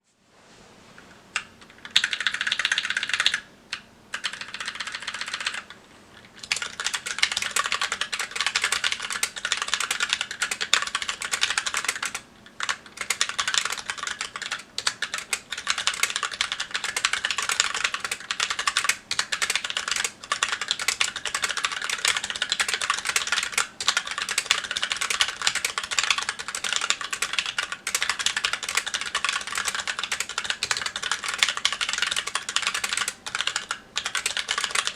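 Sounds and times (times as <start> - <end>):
mechanical keyboard typing: 1.4 - 34.9.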